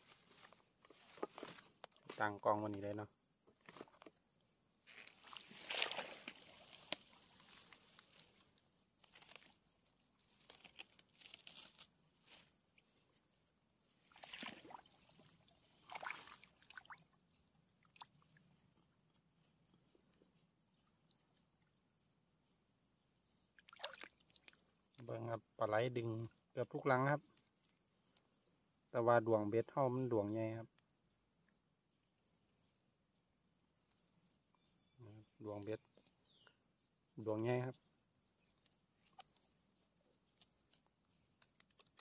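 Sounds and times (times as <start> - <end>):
high-pitched insect call: 0.0 - 42.0.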